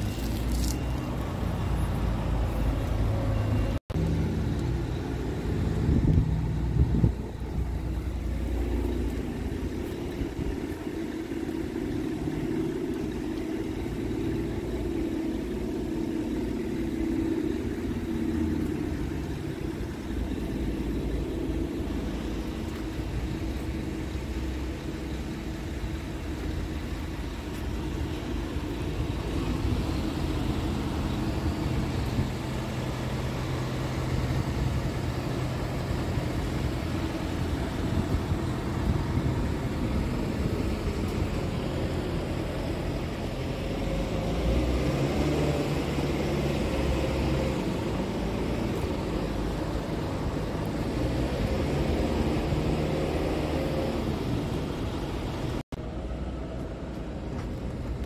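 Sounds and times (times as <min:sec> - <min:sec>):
truck diesel engine idling: 0:00.0 - 0:58.0.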